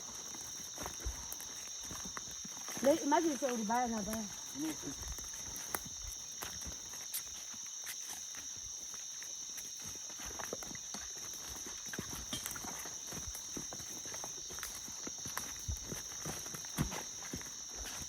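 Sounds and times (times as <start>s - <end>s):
footsteps walking outdoors: 0.0s - 18.0s.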